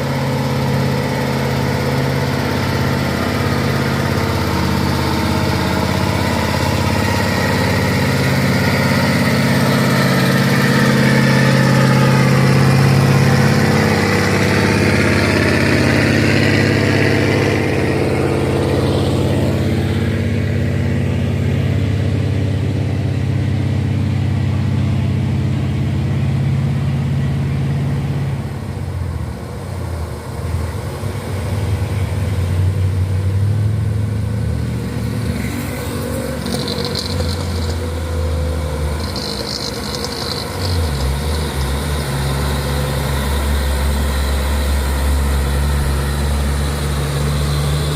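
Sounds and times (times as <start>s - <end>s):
truck diesel engine labouring: 0.0s - 47.9s.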